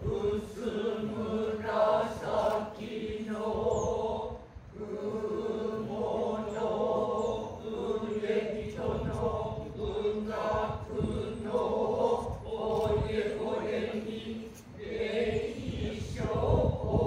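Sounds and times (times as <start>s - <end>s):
voices chanting in level tones: 0.0s - 17.0s.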